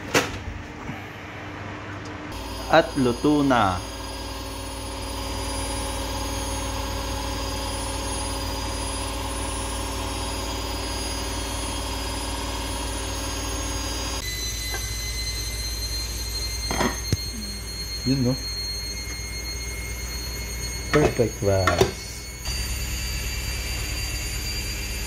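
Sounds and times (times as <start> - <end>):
appliance motor humming: 2.3 - 25.0.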